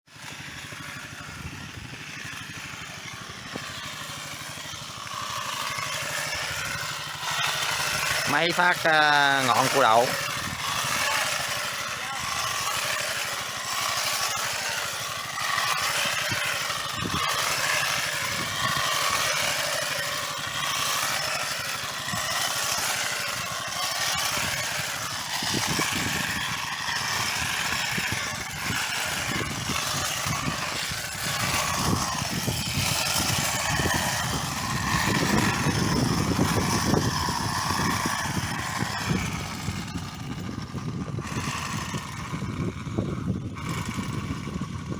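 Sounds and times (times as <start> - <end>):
crackling of shoots being cut: 0.1 - 1.3, 2.0 - 42.3
shoot cutter motor running: 0.1 - 44.9.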